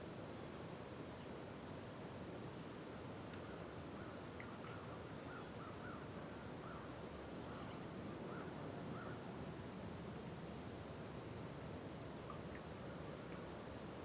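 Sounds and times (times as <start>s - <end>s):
low hiss of open air: 0.0s - 14.0s.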